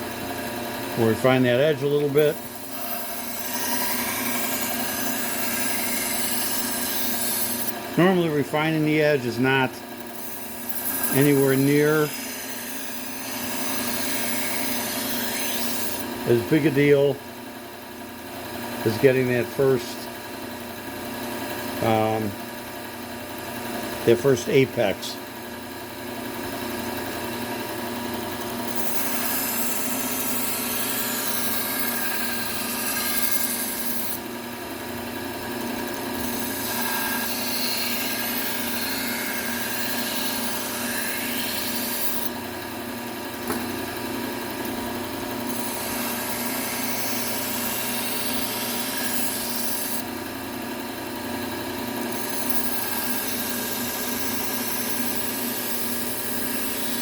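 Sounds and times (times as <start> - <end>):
knife grinding on belt sander: 0.0 - 17.2, 18.6 - 20.5, 26.4 - 57.0
belt sander motor hum: 0.0 - 57.0.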